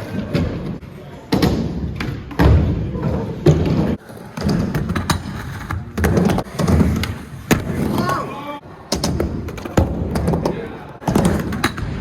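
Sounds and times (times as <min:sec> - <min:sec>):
skateboard clacks and thumps: 0:00.0 - 0:08.2, 0:08.9 - 0:12.0.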